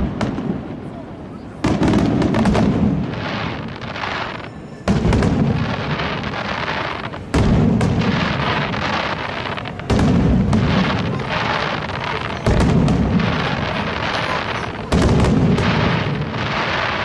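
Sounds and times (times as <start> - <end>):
firework booms: 0.0 - 17.0.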